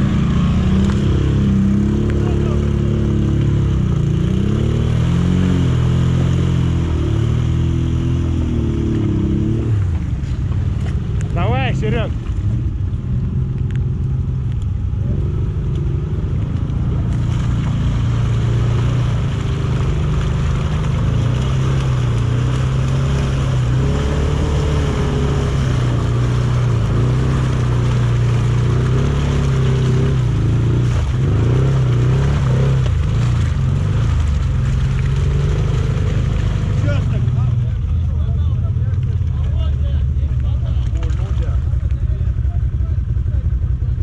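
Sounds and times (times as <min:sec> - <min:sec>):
atv engine revving: 0:00.0 - 0:12.7, 0:14.9 - 0:44.0.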